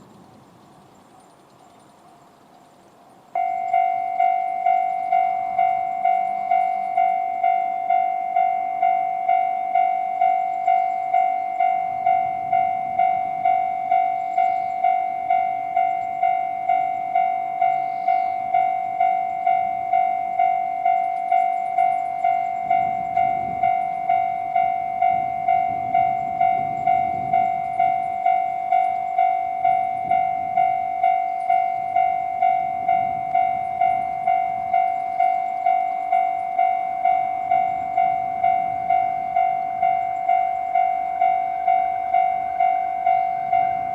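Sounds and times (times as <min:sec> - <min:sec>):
train rumbling past: 0:00.0 - 0:01.1, 0:01.8 - 0:43.9
level crossing bell ringing: 0:03.4 - 0:43.9.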